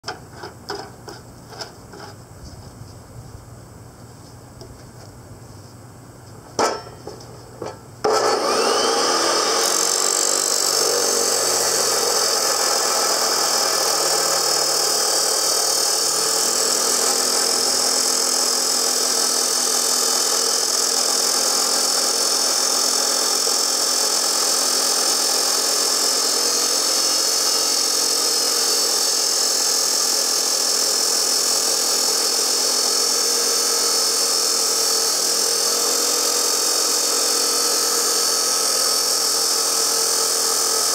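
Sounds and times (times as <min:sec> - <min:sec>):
chop saw whine: 0:06.6 - 0:40.9.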